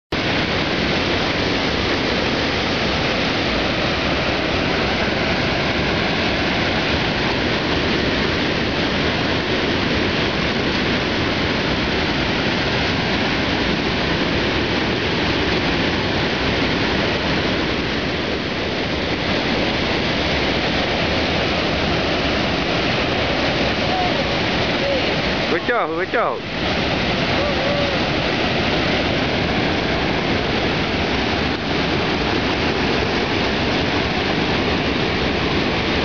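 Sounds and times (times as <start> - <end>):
water rushing over weir: 0.1 - 36.0.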